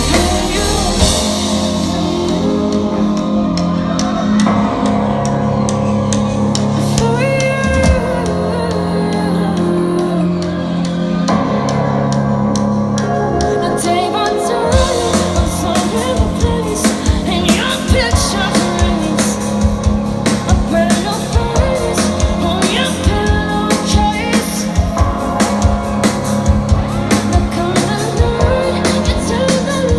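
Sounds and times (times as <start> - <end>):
steady drum beat: 0.0 - 10.6, 14.7 - 29.9
lead vocalist singing: 0.0 - 12.0, 13.0 - 29.9
live rock band playing: 0.0 - 29.9.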